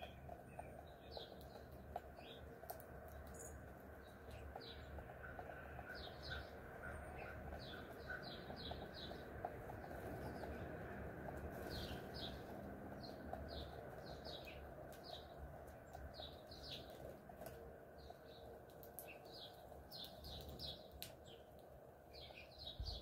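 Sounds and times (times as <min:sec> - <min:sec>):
faint background noise: 0:00.0 - 0:23.0
small birds chirping: 0:00.0 - 0:23.0.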